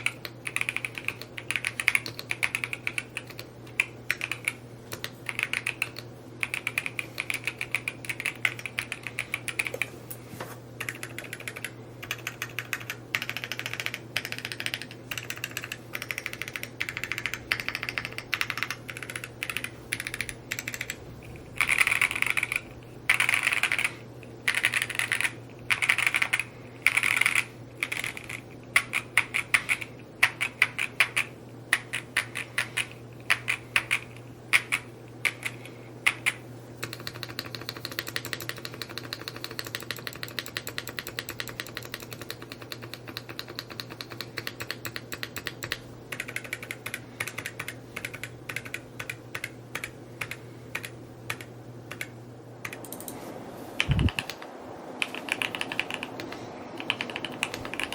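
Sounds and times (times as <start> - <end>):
mechanical keyboard typing: 0.0 - 9.9, 10.8 - 21.0, 21.6 - 53.2, 53.8 - 57.9.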